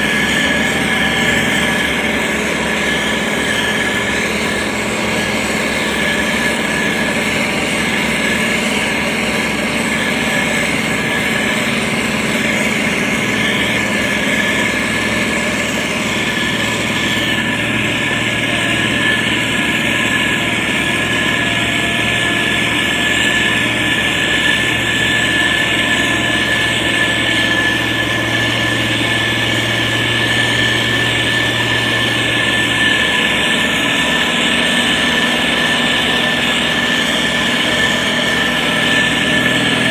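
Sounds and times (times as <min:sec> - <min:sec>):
grader diesel engine running: 0:00.0 - 0:39.9.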